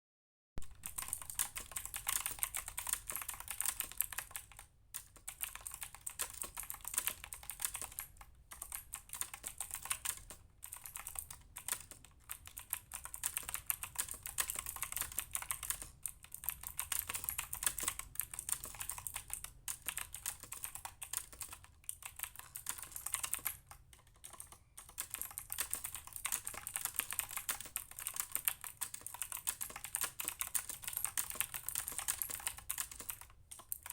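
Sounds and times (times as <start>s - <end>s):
fast mechanical keyboard typing: 0.6s - 33.9s.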